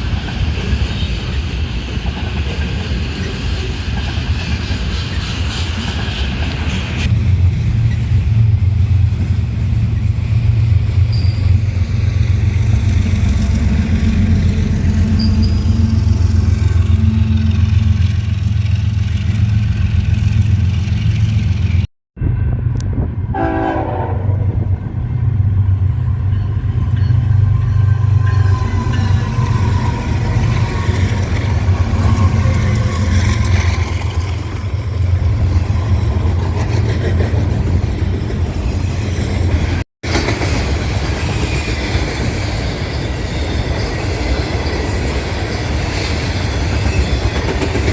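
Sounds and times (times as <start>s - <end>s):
train passing with low rumble: 0.0s - 47.9s.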